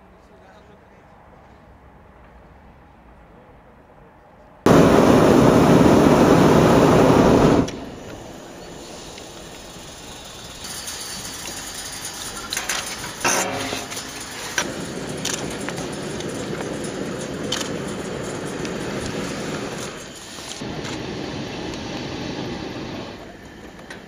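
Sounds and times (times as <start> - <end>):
low steady rush: 0.0 - 24.0
propane burner roaring: 4.7 - 24.0.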